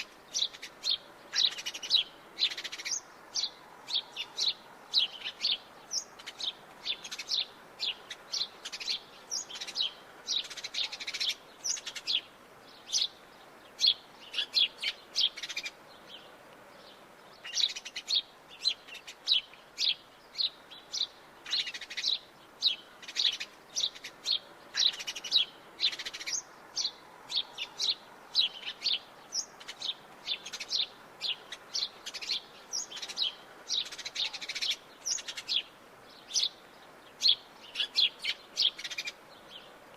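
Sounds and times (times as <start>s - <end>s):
sparrow chirping: 0.0s - 39.8s.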